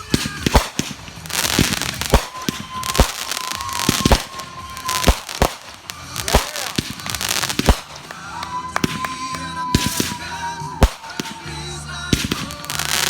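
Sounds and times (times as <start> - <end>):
firework bangs: 0.0 - 13.0
high firework whistle: 0.0 - 13.0
hissing crackle of fireworks: 0.0 - 13.0.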